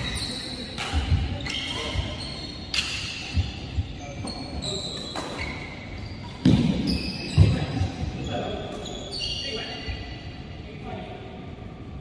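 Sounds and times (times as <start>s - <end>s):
shoes squeaking on court: 0.0s - 10.2s.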